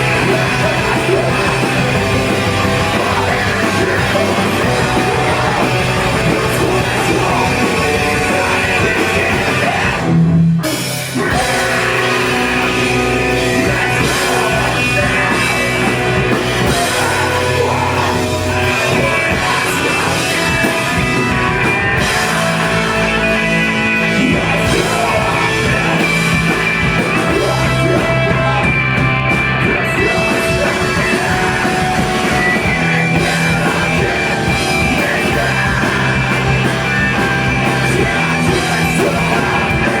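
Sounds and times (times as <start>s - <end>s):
person singing or shouting: 0.0s - 10.2s, 11.1s - 40.0s
distorted guitars: 0.0s - 40.0s
drum kit: 0.0s - 40.0s.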